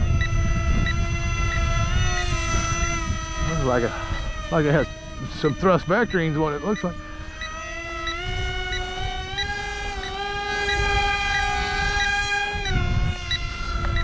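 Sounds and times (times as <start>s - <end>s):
electric model airplane whining: 0.0s - 14.0s
wind rumble on microphone: 0.0s - 14.0s.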